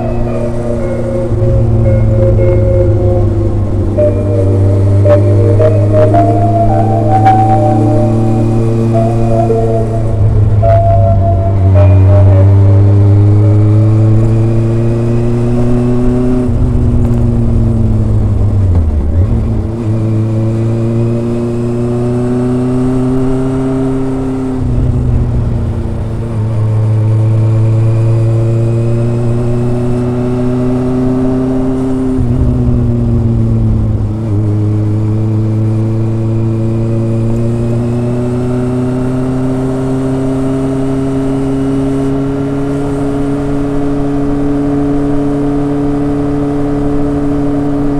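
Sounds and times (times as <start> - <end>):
motorcycle exhaust revving: 0.0 - 47.9.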